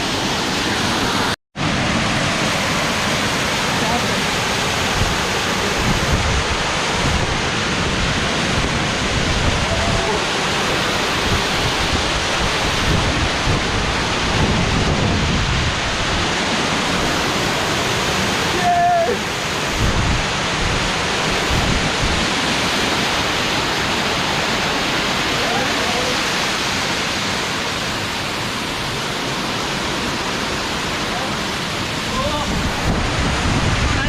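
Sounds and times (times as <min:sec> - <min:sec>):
waterfall water rushing: 0:00.0 - 0:34.0.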